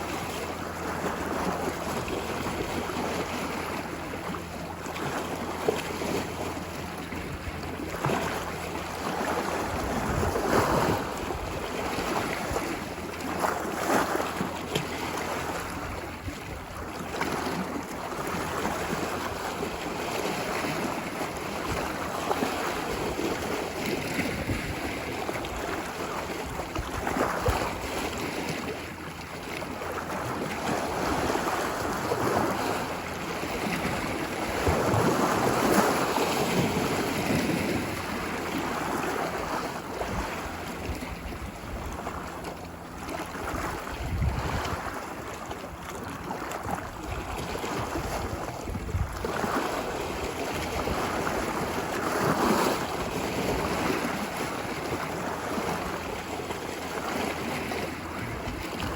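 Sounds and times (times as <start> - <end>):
ocean waves breaking on beach: 0.0 - 58.9.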